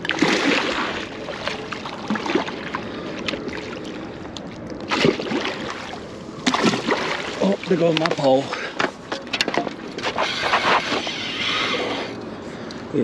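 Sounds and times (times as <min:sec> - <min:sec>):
water splashing and sloshing: 0:00.0 - 0:12.6.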